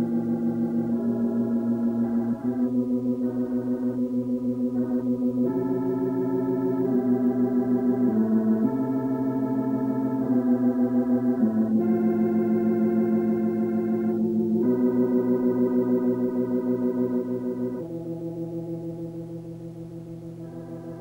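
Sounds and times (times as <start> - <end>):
organ playing held chords: 0.0 - 21.0.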